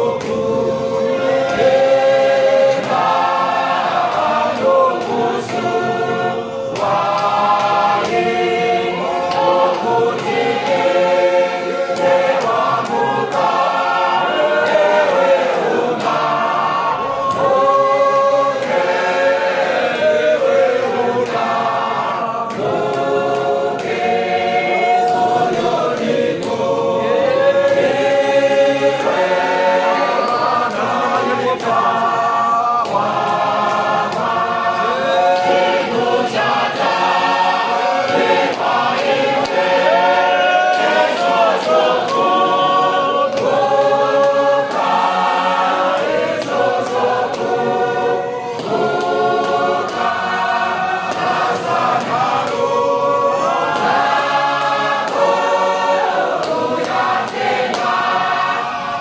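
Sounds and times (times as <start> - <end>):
men's choir singing a hymn: 0.0 - 59.0.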